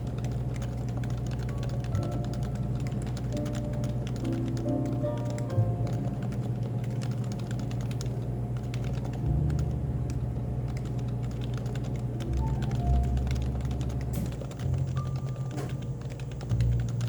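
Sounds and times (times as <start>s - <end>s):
keyboard keystroke clicks: 0.0s - 17.0s
low background hum: 0.0s - 17.0s.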